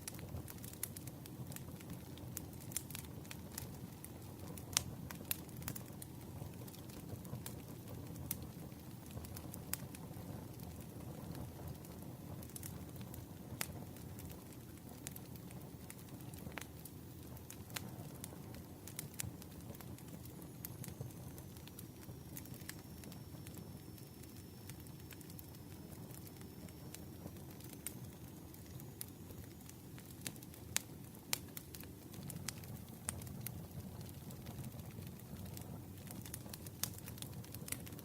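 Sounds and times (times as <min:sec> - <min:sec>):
campfire low rumble: 0:00.0 - 0:38.0
wood crackling and popping: 0:00.0 - 0:38.0.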